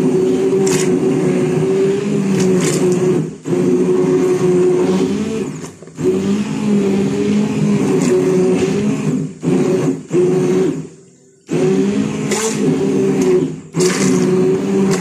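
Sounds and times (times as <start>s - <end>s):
immersion blender motor churning: 0.0s - 10.9s, 11.5s - 15.0s.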